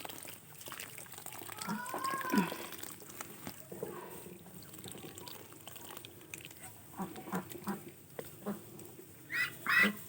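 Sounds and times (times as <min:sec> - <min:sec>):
water pouring: 0:00.0 - 0:09.2.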